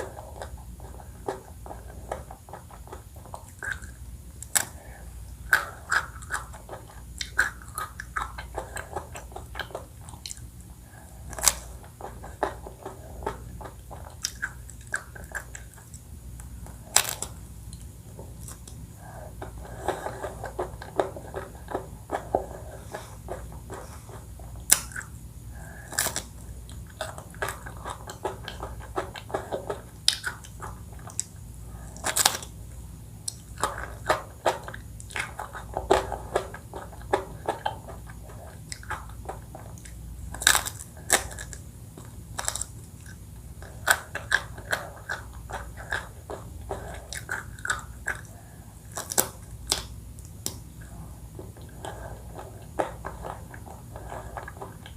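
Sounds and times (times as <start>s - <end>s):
biting and chewing food: 0.0s - 54.9s.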